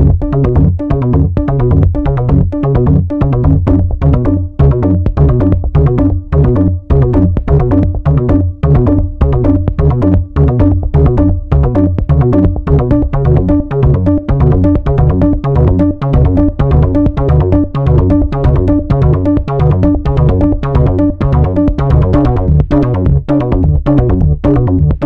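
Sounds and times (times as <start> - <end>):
electronic music with heavy bass: 0.0 - 25.0.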